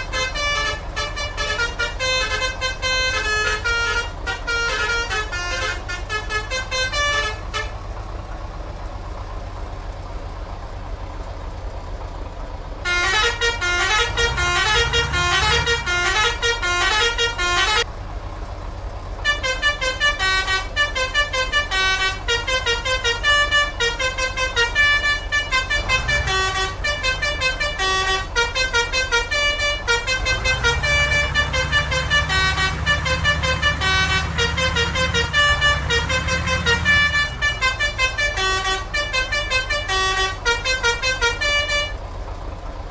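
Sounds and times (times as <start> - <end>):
multi-tone bus horn playing notes: 0.0 - 7.9, 12.8 - 17.9, 19.2 - 42.1
bus engine rumbling: 0.0 - 42.9.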